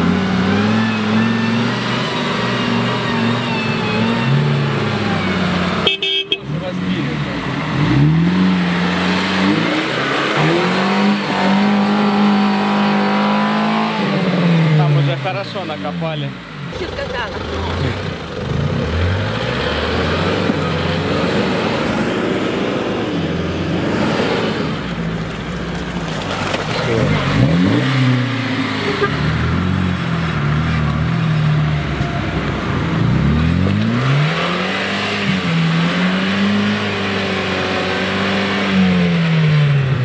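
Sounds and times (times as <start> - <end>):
suv engine running through mud: 0.0 - 5.9, 6.5 - 40.0
car engine revving hard: 0.0 - 24.9, 26.9 - 40.0.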